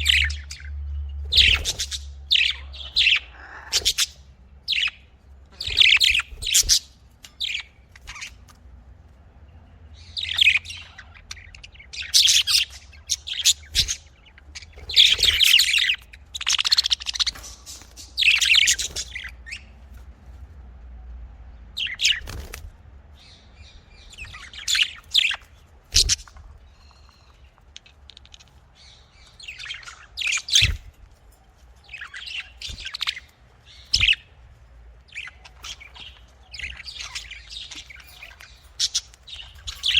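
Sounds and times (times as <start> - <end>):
budgies chirping: 0.0 - 20.6, 21.7 - 39.9.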